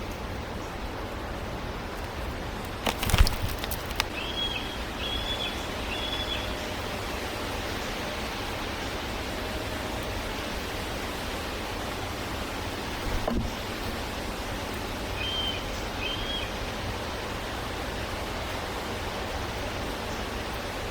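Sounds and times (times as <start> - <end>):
steady outdoor hiss: 0.0 - 20.9.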